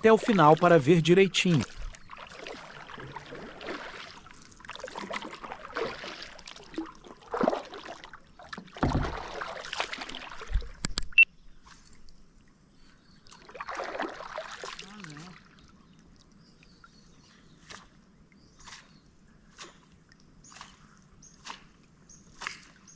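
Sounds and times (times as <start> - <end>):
water splashing and gurgling: 0.0 - 11.2, 13.2 - 22.9.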